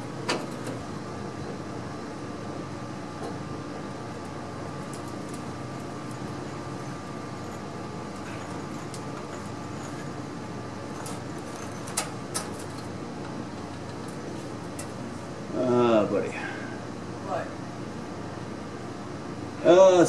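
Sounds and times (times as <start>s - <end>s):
machine hum: 0.0s - 19.6s.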